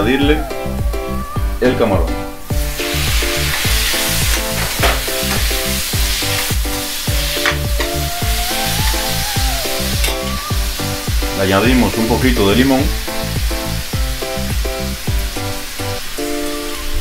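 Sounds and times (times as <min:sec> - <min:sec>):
electronic music with beat: 0:00.0 - 0:16.9
shrimp sizzling in hot oil: 0:02.4 - 0:17.0.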